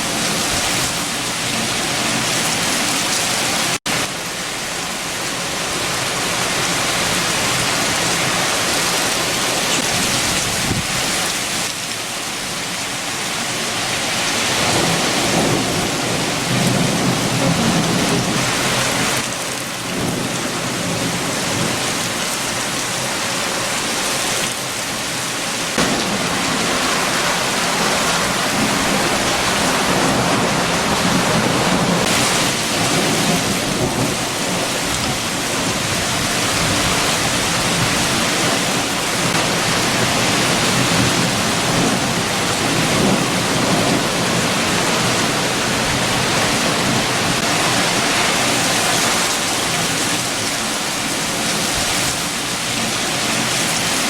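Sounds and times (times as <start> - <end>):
heavy rain: 0.0 - 54.0
strong wind: 0.0 - 54.0.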